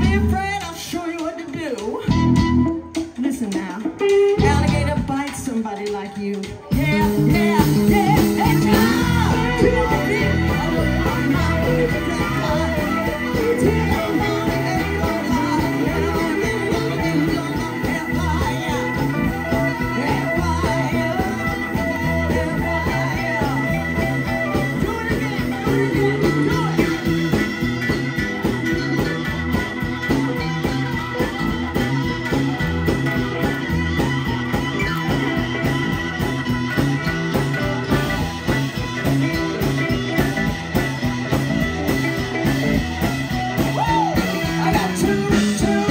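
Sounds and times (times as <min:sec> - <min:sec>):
live blues band playing: 0:00.0 - 0:45.9
amplified harmonica: 0:06.8 - 0:45.9.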